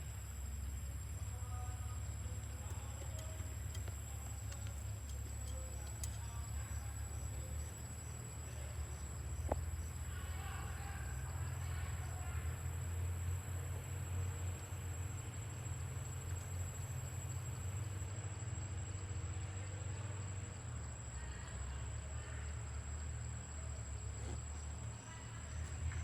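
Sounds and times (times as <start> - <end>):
low outdoor background rumble: 0.0 - 26.0.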